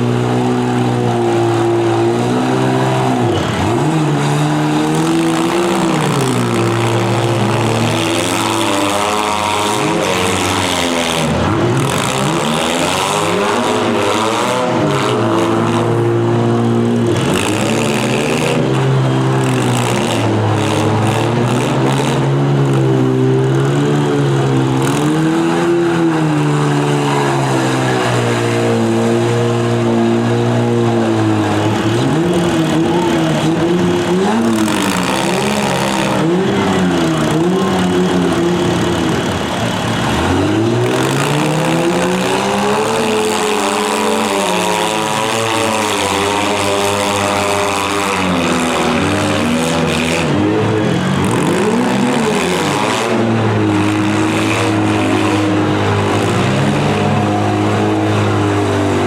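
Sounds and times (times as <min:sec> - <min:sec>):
car engines revving hard: 0:00.0 - 0:59.0.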